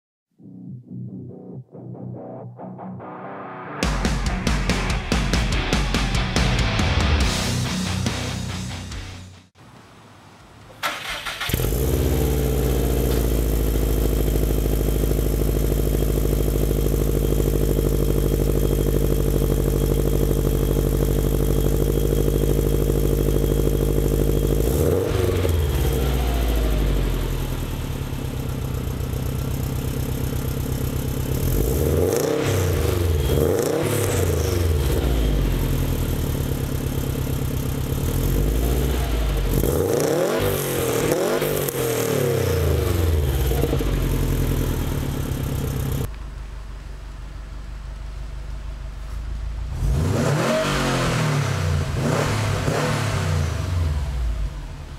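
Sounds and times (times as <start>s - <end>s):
car engine idling and revving: 10.6s - 54.9s.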